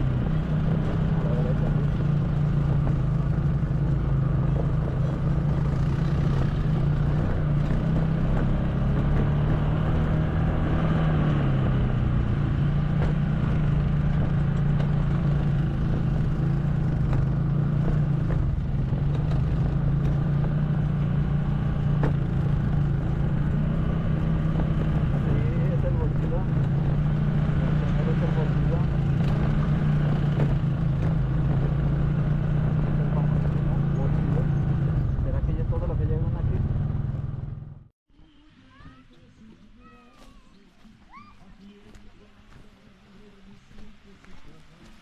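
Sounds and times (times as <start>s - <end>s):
quad bike engine running: 0.0s - 37.9s.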